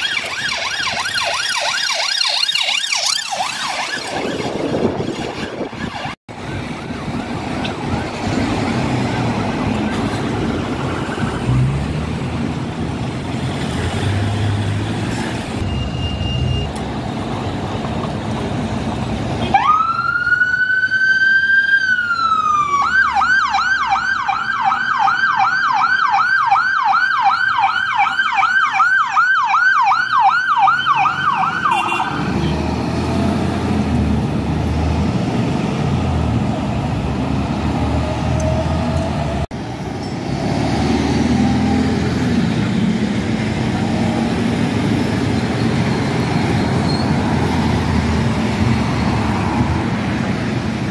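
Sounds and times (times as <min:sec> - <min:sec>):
fire engine siren wailing and yelping: 0:00.0 - 0:11.9, 0:19.4 - 0:50.9
road traffic and engine noise: 0:00.0 - 0:50.9.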